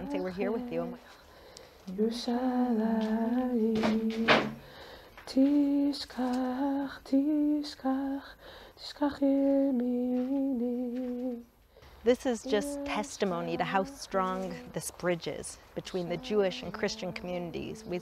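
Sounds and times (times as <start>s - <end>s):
woman singing wordless melody: 0.0s - 1.2s, 1.8s - 18.0s.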